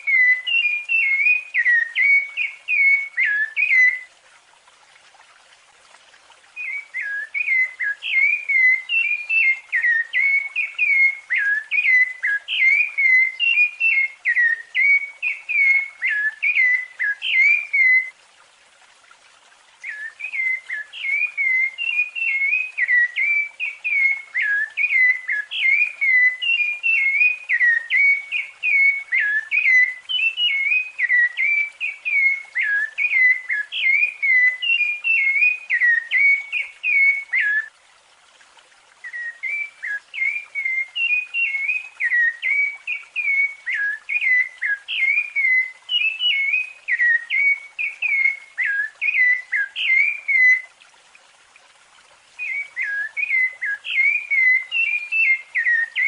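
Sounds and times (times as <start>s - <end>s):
thrush singing whistled notes: 0.0s - 4.1s, 6.5s - 18.2s, 19.8s - 37.7s, 39.0s - 50.8s, 52.4s - 56.0s.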